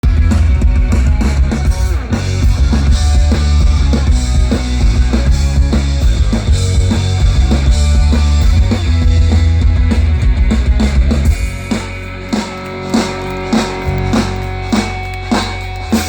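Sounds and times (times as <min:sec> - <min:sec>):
driving drum kit: 0:00.0 - 0:16.0
heavy bass line: 0:00.0 - 0:16.0
loud rock music: 0:00.0 - 0:16.0.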